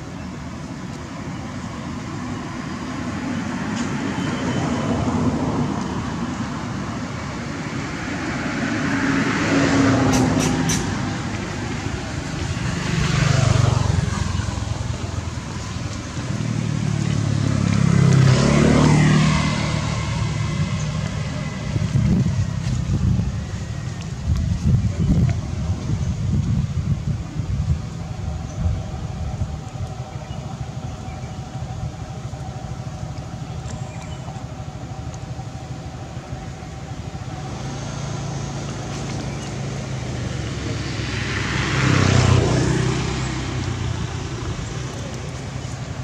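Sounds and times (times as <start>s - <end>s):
road vehicles passing: 0.0s - 46.0s.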